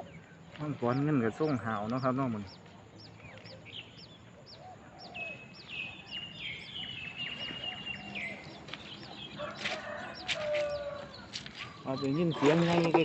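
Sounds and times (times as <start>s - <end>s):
high bird chirps: 0.0s - 13.0s.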